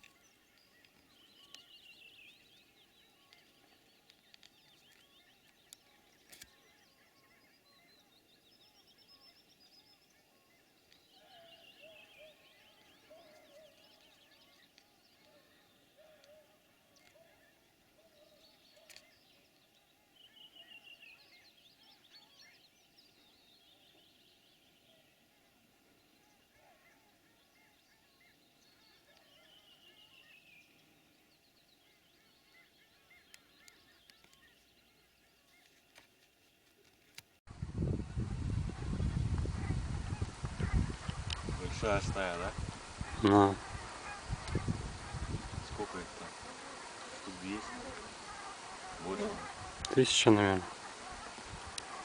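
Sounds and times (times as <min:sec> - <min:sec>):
lower-pitched bird calls: 0:00.0 - 0:35.9, 0:38.2 - 0:52.0
birds chirping: 0:00.0 - 0:52.0.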